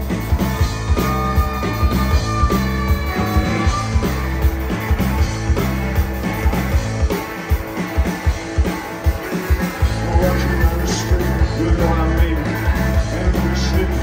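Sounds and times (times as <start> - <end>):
deep bass: 0.0 - 7.2, 9.8 - 14.0
live rock band playing: 0.0 - 14.0.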